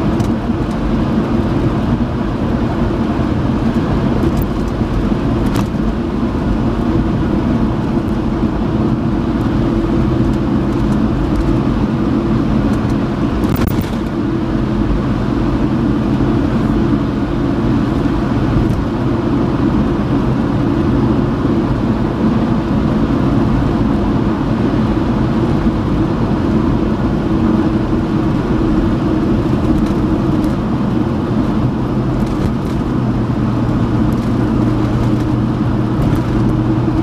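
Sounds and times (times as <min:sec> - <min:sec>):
car interior engine and tyre drone: 0:00.0 - 0:37.0.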